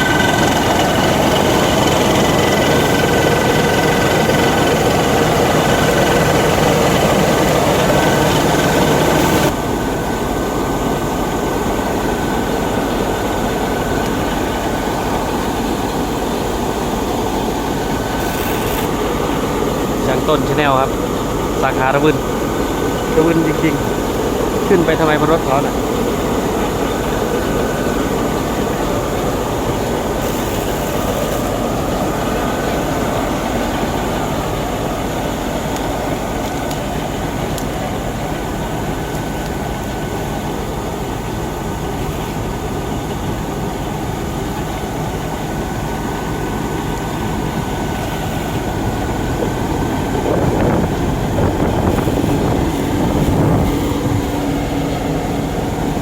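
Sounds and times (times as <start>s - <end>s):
combine harvester drone: 0.0s - 56.0s
thin steady whine: 0.0s - 56.0s.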